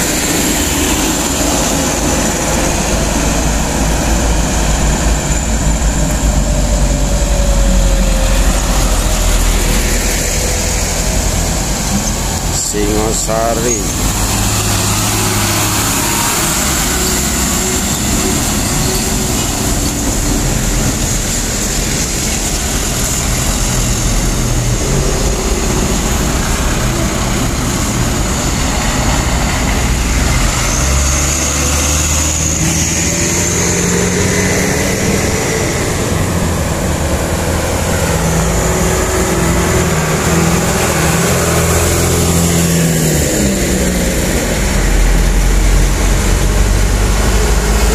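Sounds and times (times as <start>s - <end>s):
diesel truck engines: 0.0s - 47.9s.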